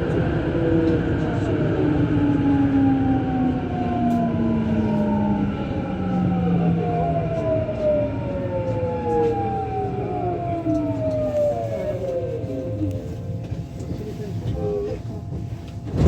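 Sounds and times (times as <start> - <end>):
train running gear rumble: 0.0 - 16.0.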